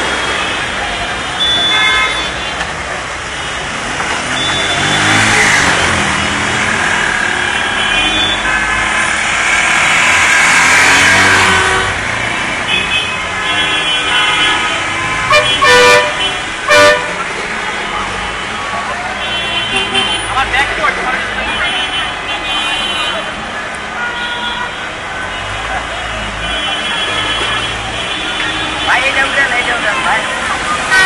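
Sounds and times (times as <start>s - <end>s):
car horns honking: 0.0s - 31.0s
vehicles swishing through water: 2.3s - 22.4s, 24.8s - 31.0s.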